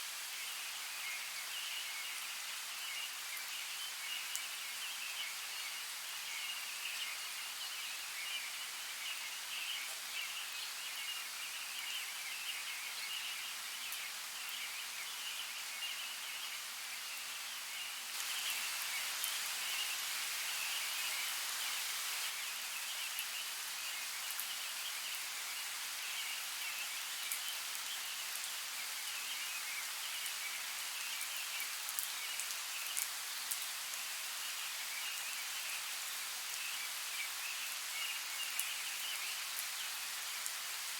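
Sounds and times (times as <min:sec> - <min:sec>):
hiss of running water: 0:00.0 - 0:40.9.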